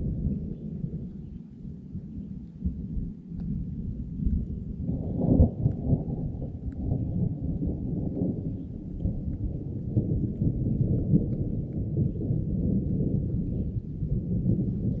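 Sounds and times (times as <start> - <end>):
low rumble of thunder: 0.0 - 15.0.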